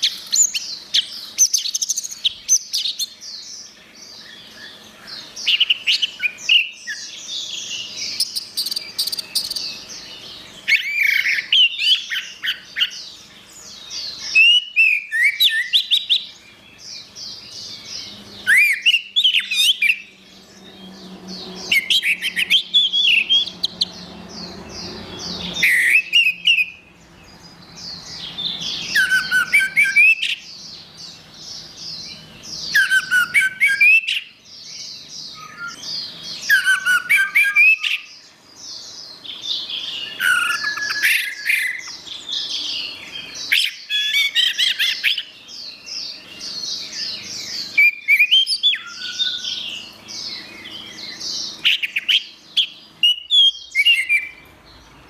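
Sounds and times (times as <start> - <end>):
thrush singing whistled trills: 0.0 - 55.0.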